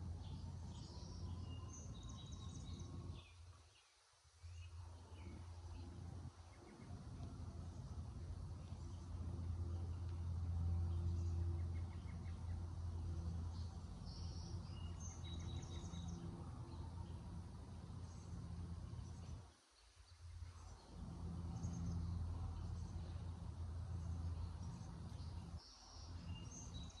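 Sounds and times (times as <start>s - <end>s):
steady low hum: 4.4s - 19.5s, 20.1s - 27.0s.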